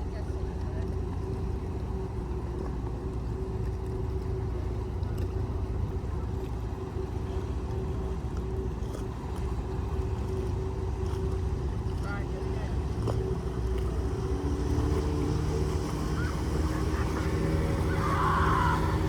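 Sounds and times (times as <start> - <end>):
marine engines rumbling: 0.0 - 19.0
mid-pitched hum: 0.0 - 19.0.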